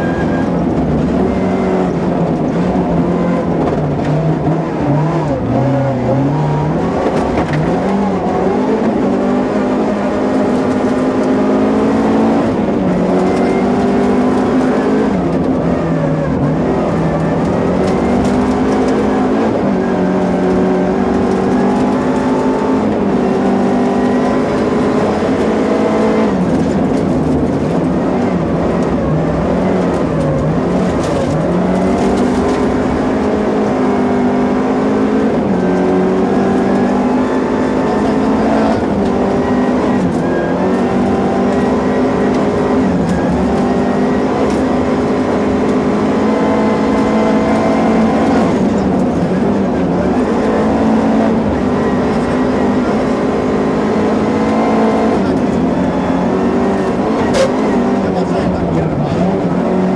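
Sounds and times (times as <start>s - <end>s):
car engine revving: 0.0s - 59.9s
road noise rushing: 0.0s - 59.9s.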